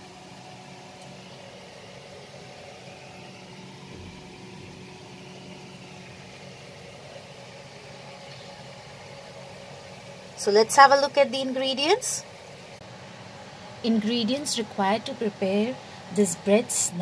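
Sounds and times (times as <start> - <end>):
low hum of room tone: 0.0 - 17.0.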